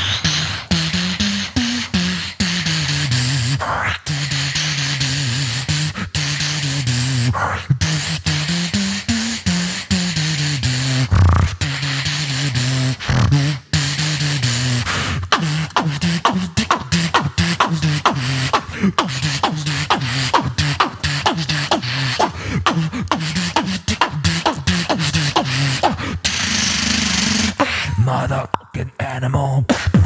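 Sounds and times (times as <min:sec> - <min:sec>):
beatboxing drum clicks: 0:00.0 - 0:30.0.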